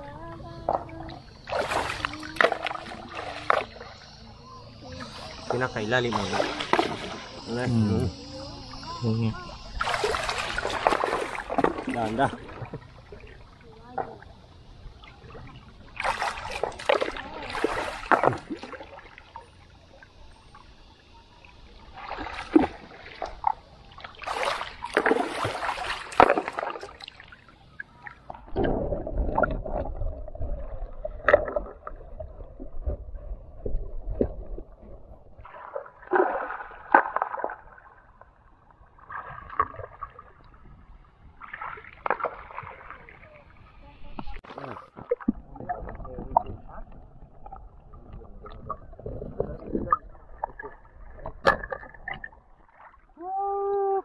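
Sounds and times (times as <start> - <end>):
muffled underwater rumble: 0.0 - 25.0, 26.8 - 36.0, 37.5 - 54.0
water splashing and sloshing: 0.0 - 54.0.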